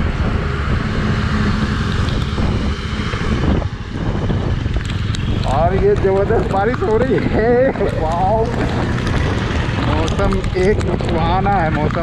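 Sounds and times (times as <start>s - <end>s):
driving rain: 0.0s - 12.0s
motorcycle engine running: 0.0s - 12.0s
wind noise on microphone: 0.0s - 12.0s.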